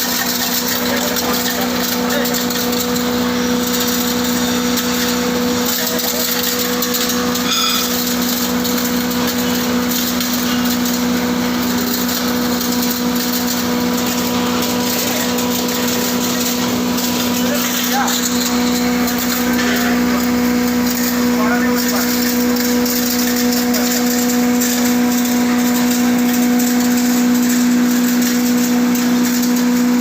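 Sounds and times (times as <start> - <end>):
wood chipper running: 0.0 - 30.0.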